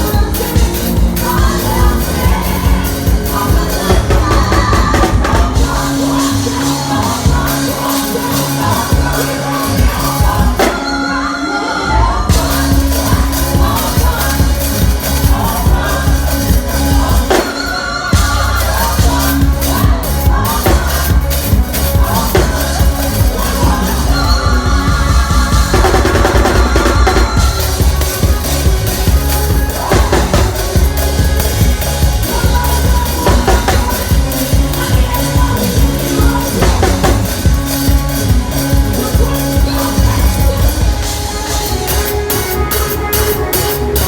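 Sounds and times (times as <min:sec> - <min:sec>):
drum kit beat: 0:00.0 - 0:11.1, 0:12.2 - 0:44.0
heavy bass line: 0:00.0 - 0:44.0
live band music: 0:00.0 - 0:44.0.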